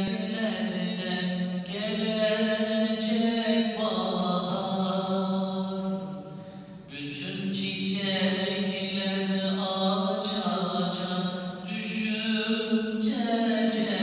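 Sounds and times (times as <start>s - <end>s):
man chanting unaccompanied: 0.0s - 14.0s.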